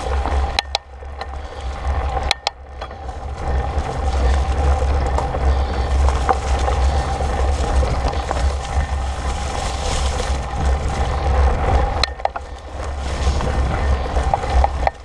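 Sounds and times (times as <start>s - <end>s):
bike tyres rolling on dirt trail: 0.0s - 15.0s
faint steady hum: 0.0s - 15.0s.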